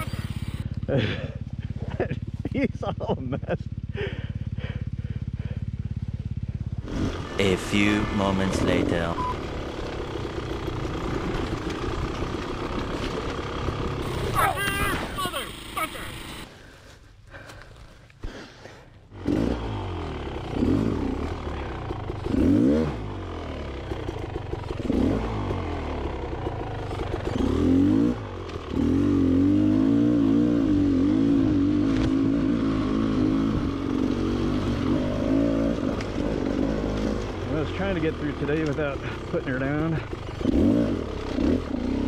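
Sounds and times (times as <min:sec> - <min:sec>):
dirt bike two-stroke engine revving: 0:00.0 - 0:16.5, 0:19.1 - 0:42.0.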